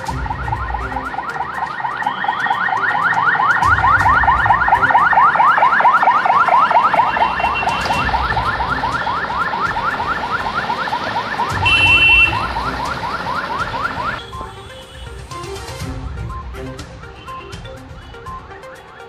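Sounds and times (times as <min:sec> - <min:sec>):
ambulance siren yelp: 0:00.0 - 0:19.0.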